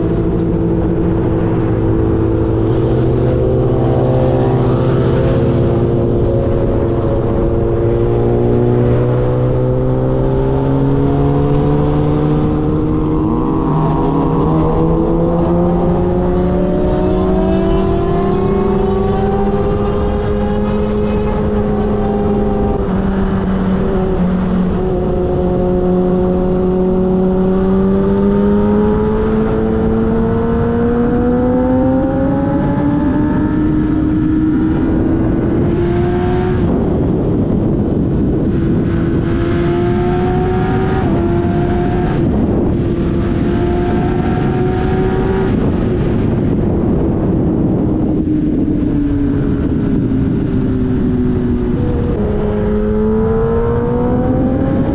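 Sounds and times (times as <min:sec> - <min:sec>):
wind rush: 0:00.0 - 0:54.9.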